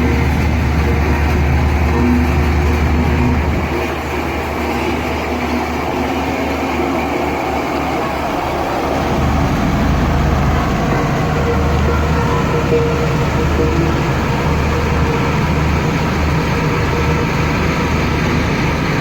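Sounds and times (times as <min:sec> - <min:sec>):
heavy machine engine humming: 0:00.0 - 0:19.0.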